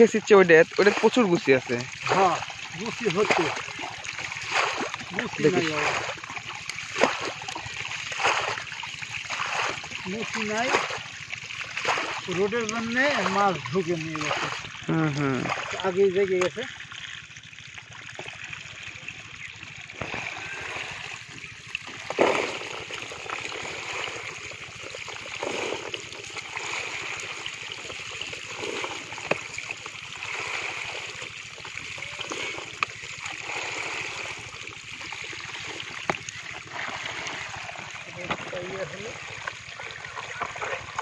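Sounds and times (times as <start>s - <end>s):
fish splashing: 0.0s - 41.0s
water running down channel: 0.0s - 41.0s.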